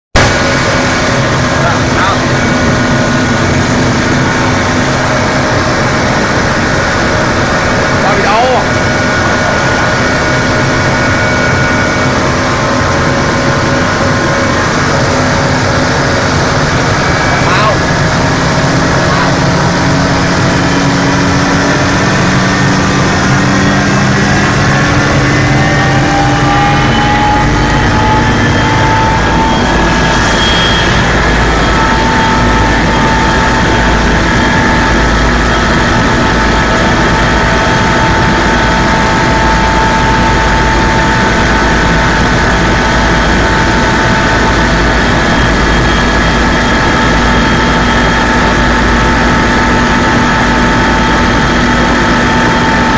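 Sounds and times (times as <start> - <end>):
helicopter turbine and rotor: 0.2 - 52.9.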